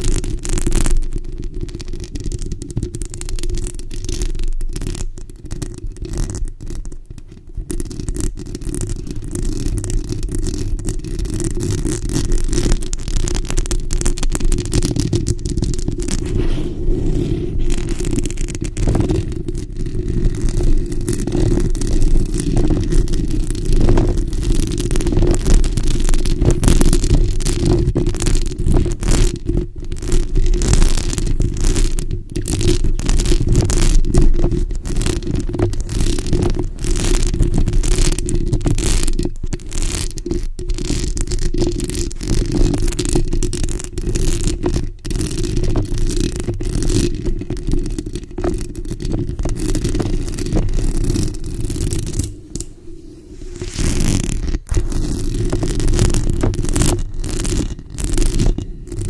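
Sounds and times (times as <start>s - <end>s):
nails scratching and tapping microphone: 0.7s - 59.0s.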